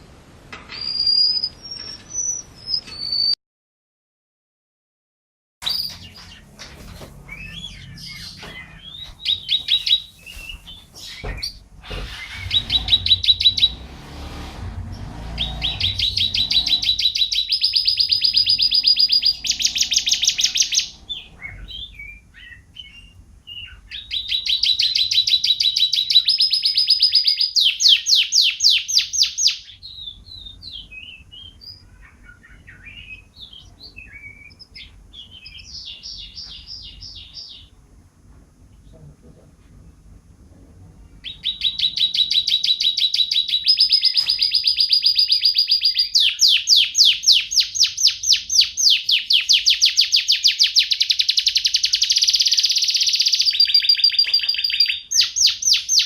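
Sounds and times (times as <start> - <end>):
canary singing trills: 0.7 - 3.4, 7.2 - 14.1, 14.8 - 37.8, 41.0 - 56.0.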